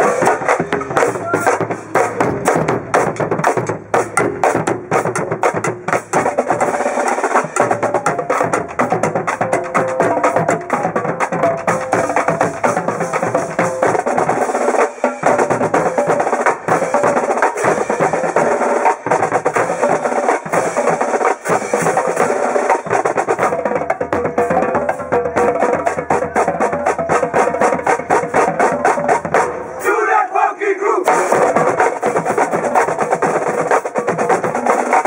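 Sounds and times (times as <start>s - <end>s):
marching drumline playing funk: 0.0s - 35.0s.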